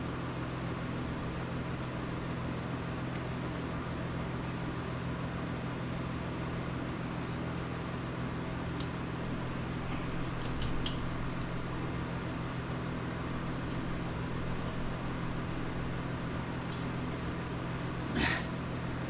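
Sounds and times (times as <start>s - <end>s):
low machine hum with hiss: 0.0s - 19.0s.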